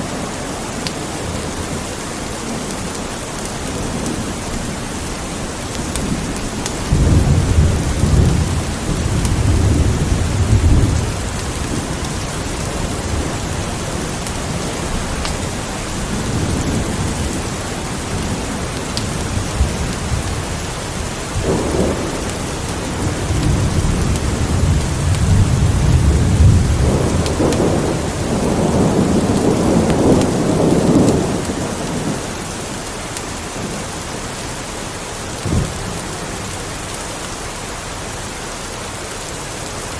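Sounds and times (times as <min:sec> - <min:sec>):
steady rain falling: 0:00.0 - 0:39.9
thunder rumbling: 0:01.3 - 0:33.9.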